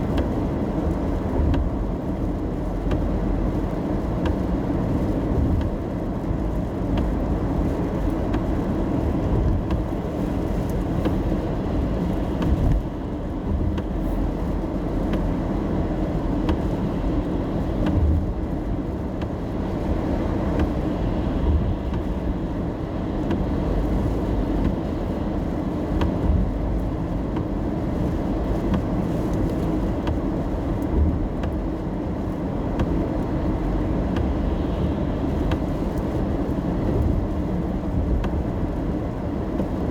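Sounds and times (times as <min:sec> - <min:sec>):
car road and engine rumble: 0:00.0 - 0:39.9
raindrops ticking on car: 0:00.0 - 0:39.9.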